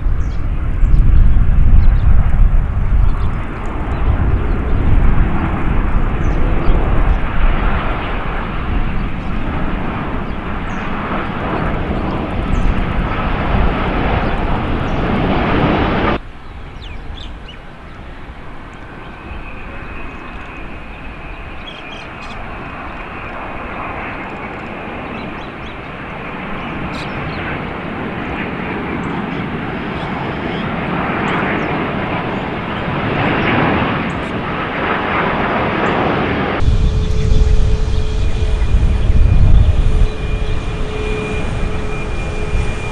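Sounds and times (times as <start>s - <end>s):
high jet whine: 0.0s - 16.2s, 18.8s - 42.9s
jet engine rush: 0.0s - 16.2s, 17.7s - 42.9s.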